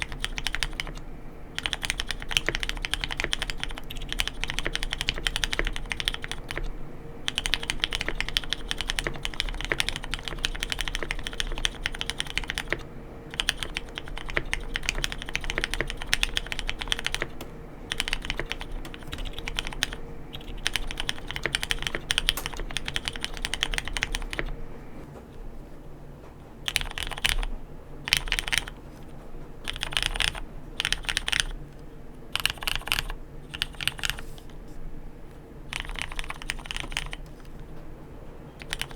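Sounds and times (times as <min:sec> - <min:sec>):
mechanical keyboard typing: 0:00.0 - 0:24.6, 0:26.7 - 0:31.6, 0:32.3 - 0:34.6, 0:35.7 - 0:37.8, 0:38.5 - 0:38.9.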